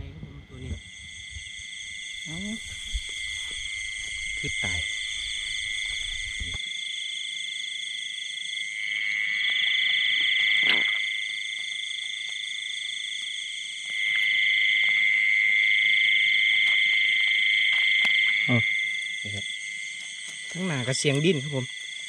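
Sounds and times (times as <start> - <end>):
frogs calling: 0.0 - 7.2, 7.9 - 22.0.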